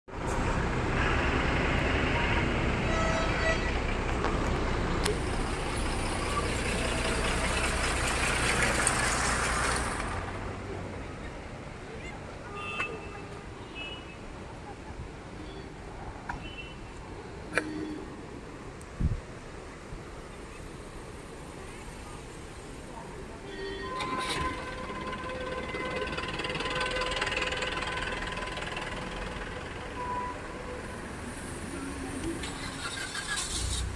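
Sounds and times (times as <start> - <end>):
vehicle engine and traffic noise: 0.1 - 33.9.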